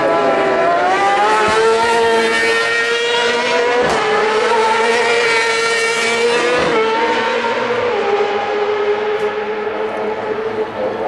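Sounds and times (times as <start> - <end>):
racing motorcycle engine high revs: 0.0 - 9.4.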